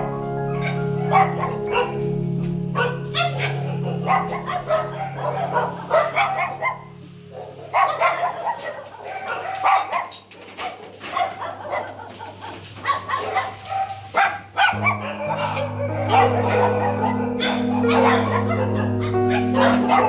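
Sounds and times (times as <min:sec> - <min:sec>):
dogs barking and yipping: 0:00.0 - 0:20.0.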